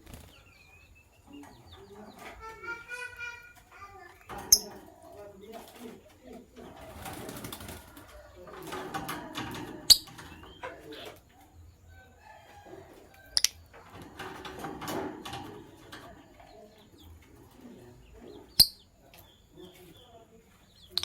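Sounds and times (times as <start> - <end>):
lovebirds chattering: 0.0 - 21.0.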